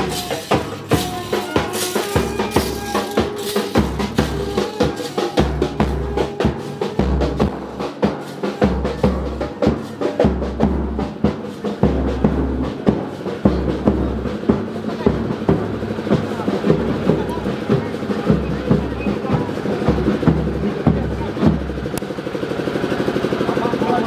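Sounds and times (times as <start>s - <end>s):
held melody notes: 0.0s - 21.9s
snare drum strokes: 0.0s - 23.4s.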